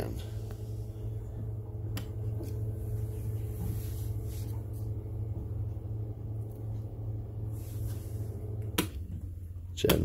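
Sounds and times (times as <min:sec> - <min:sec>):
low generator hum: 0:00.0 - 0:10.0.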